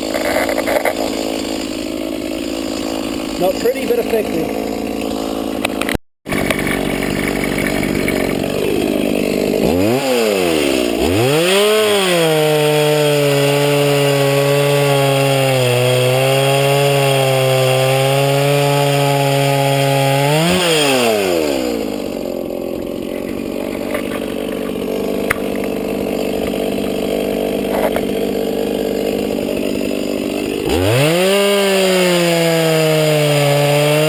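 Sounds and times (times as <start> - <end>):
chainsaw revving and cutting wood: 0.0 - 34.0.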